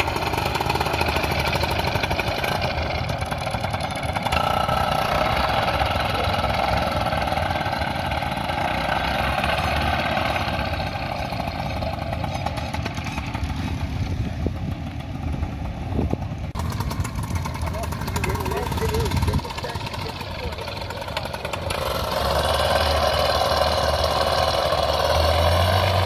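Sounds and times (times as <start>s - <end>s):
paramotor engine running: 0.0s - 26.0s.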